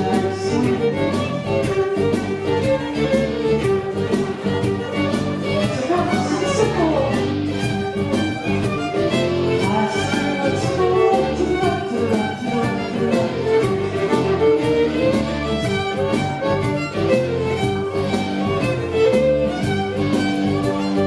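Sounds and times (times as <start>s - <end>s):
driving dance beat: 0.0s - 21.0s
fiddle playing a tune: 0.0s - 21.0s.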